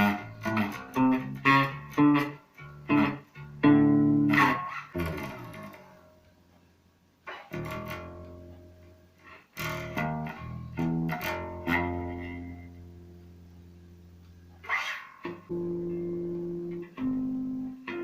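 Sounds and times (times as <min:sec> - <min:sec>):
electric bass plucked notes: 0:00.0 - 0:06.2, 0:07.3 - 0:18.0.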